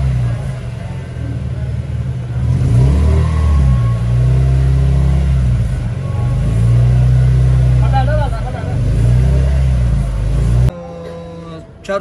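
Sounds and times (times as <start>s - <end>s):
car engine revving at low revs: 0.0s - 10.8s.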